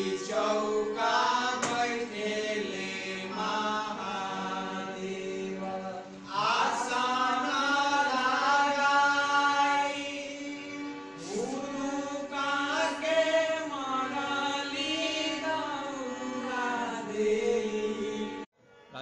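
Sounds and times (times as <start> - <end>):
women singing together: 0.0 - 8.8, 11.2 - 18.4
harmonium reed drone: 0.0 - 19.0.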